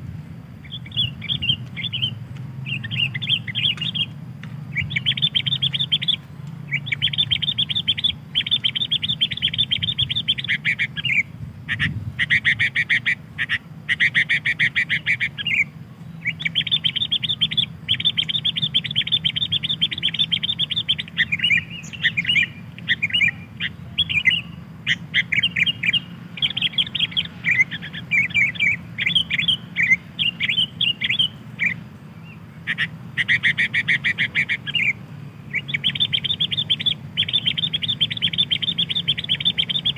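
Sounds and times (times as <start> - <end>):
steady low hum: 0.0 - 39.9
bulbul chattering: 0.1 - 39.9.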